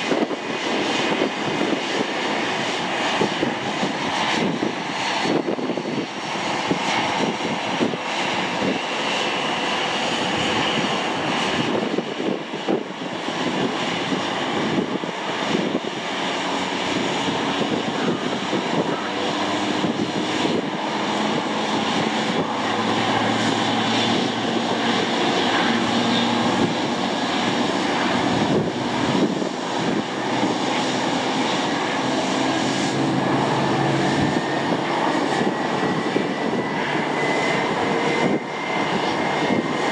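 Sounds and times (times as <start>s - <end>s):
airliner engines running: 0.0s - 39.9s.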